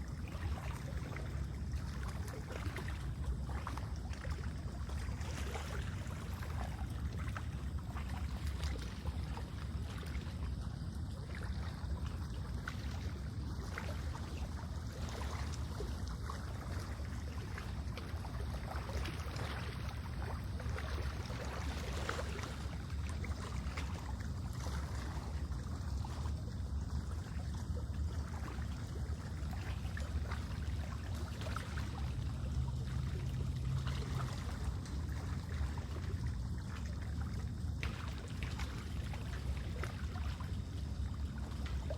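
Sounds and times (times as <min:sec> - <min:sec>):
low steady rumble: 0:00.0 - 0:41.9
water lapping and trickling: 0:00.0 - 0:41.9.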